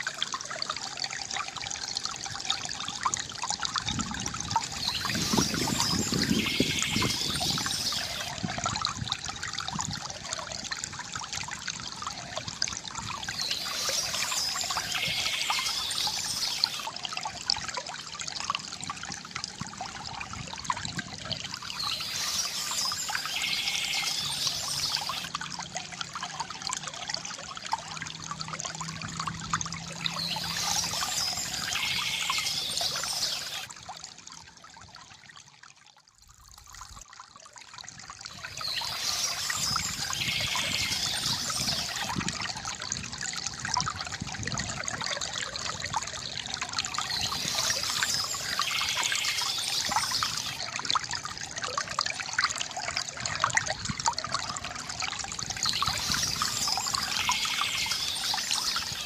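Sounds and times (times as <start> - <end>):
water trickling from fountain spout: 0.0 - 59.0.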